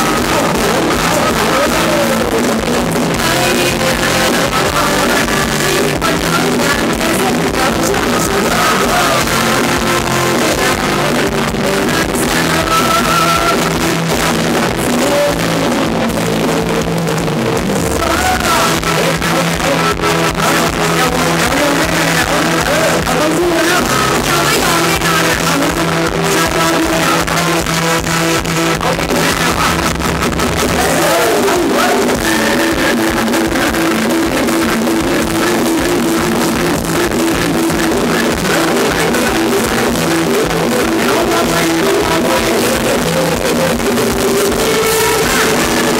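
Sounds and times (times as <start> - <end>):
bass line: 0.0 - 45.9
drum kit beat: 0.0 - 45.9
electric guitar: 0.0 - 45.9
live band dance music: 0.0 - 45.9
person singing long notes: 0.0 - 45.9.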